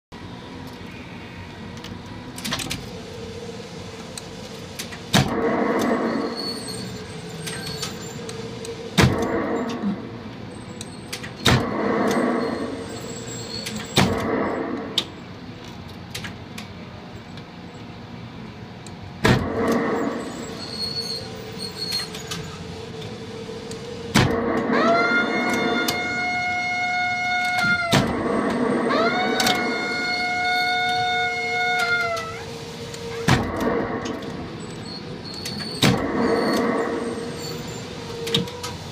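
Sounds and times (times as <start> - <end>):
arcade machine hum: 0.2 - 38.9.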